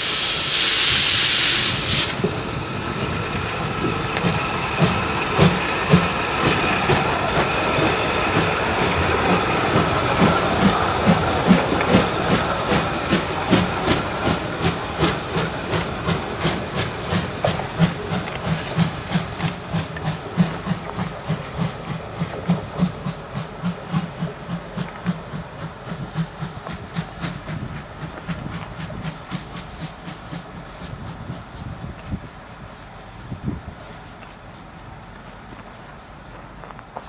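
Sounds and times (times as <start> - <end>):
steam hiss: 0.0 - 2.8, 3.7 - 34.0
steam locomotive chuffing: 0.0 - 34.0.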